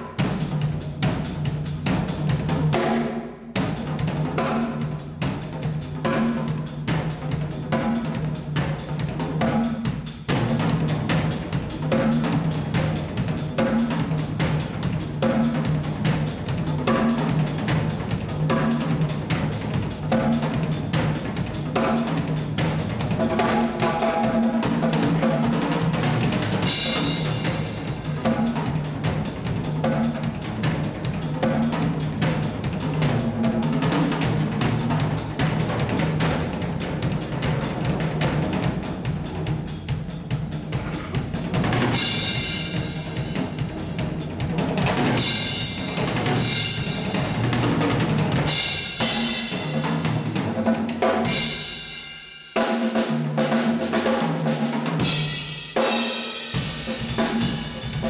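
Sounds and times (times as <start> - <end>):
drum kit playing: 0.0 - 58.0.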